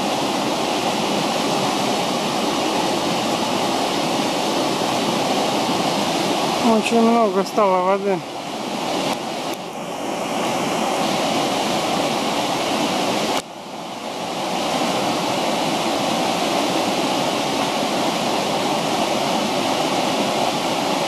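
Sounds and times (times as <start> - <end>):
river roaring through rapids: 0.0 - 21.0.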